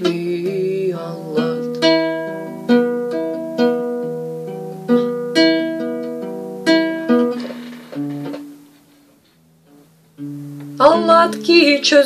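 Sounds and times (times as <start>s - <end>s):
guitar plucked chords: 0.0s - 8.8s, 9.4s - 12.0s.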